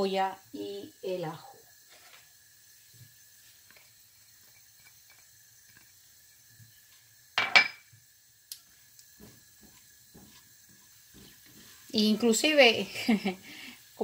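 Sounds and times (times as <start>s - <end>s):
spatula stirring onion in a pot: 0.0s - 14.0s.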